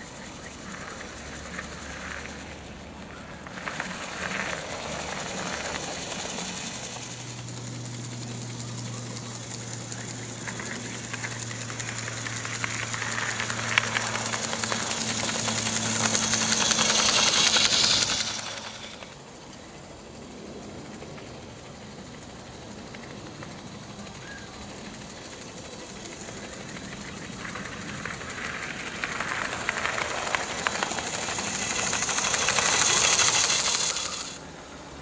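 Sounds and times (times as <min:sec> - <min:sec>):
wheels clattering on rails: 0:00.0 - 0:19.7, 0:22.3 - 0:34.4
model train motor humming: 0:00.0 - 0:35.0.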